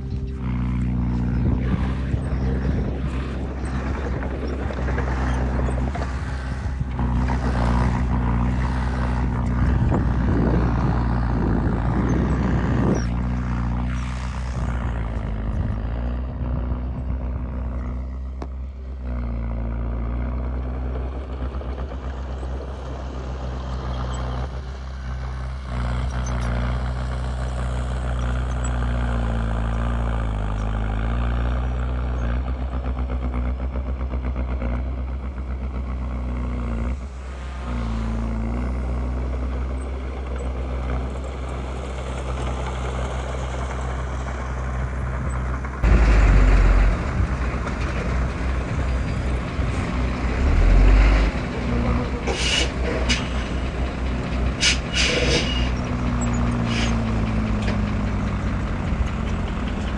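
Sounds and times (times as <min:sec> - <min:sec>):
tracks and blade crunching soil: 0:00.0 - 0:32.7, 0:35.9 - 0:59.9
bulldozer diesel engine running: 0:00.0 - 0:59.9.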